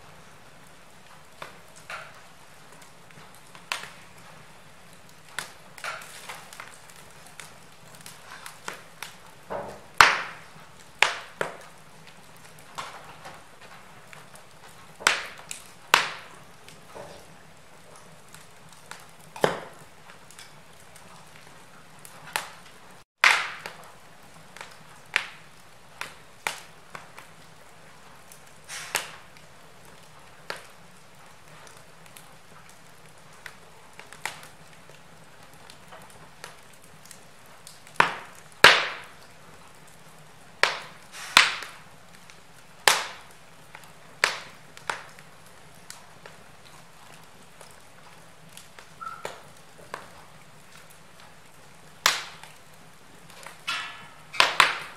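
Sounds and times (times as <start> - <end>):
fire hissing: 0.0 - 54.9
wood fire crackling and popping: 0.0 - 54.9.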